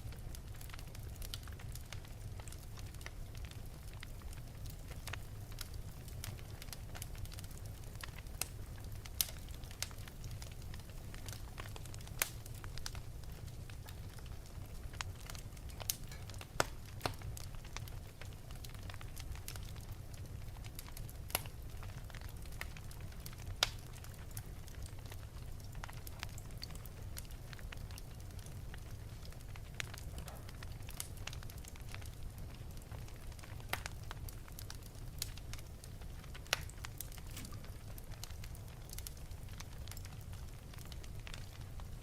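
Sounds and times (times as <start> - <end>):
low rumble of flames: 0.0 - 42.0
wood fire crackles and pops: 0.0 - 42.0.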